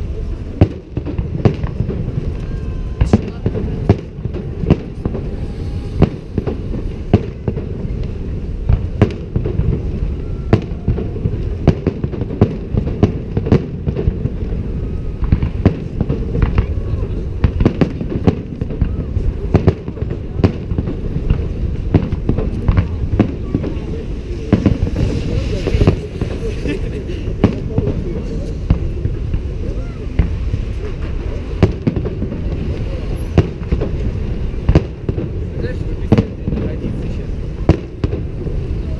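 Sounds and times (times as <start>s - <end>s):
crowd voices: 0.0s - 38.9s
fireworks bangs: 0.0s - 38.9s.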